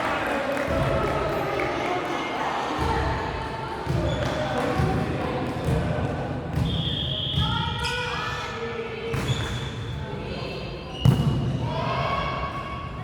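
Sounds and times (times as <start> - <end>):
voices echoing in hall: 0.0 - 13.0.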